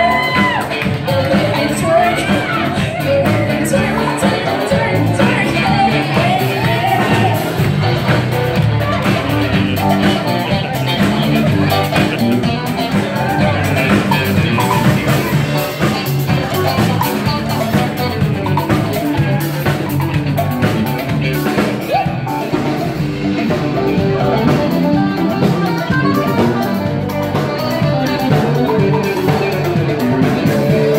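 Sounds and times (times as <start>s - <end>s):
drum kit: 0.0s - 30.9s
electric guitars: 0.0s - 30.9s
live band playing dance music: 0.0s - 30.9s.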